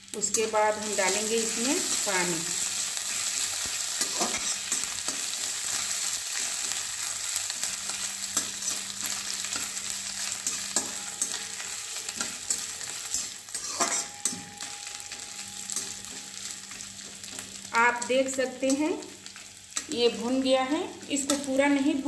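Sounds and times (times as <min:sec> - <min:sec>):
spices sizzling in hot oil: 0:00.0 - 0:22.0
spoon stirring in a pan: 0:00.3 - 0:20.2.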